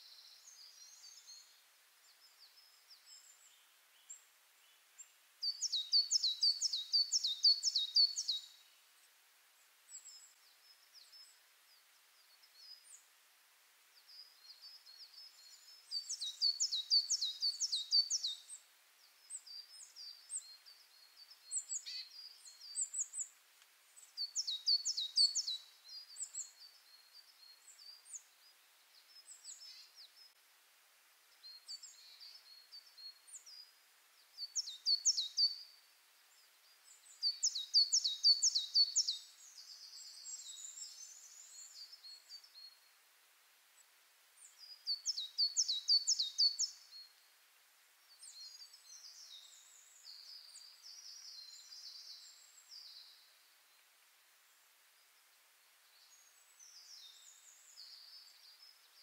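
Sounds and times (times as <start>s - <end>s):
soft bird chirps: 0.0s - 30.6s, 31.2s - 59.0s
songbird singing: 0.0s - 59.0s.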